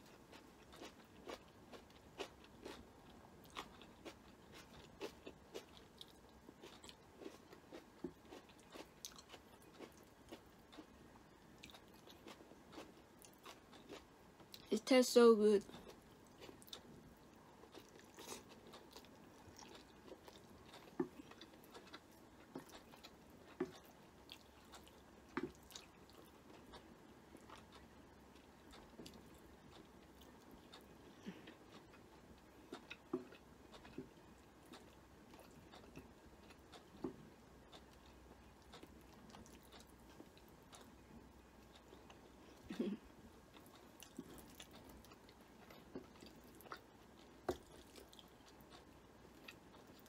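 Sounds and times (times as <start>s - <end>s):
person chewing noodles: 0.0s - 14.7s, 15.6s - 50.0s.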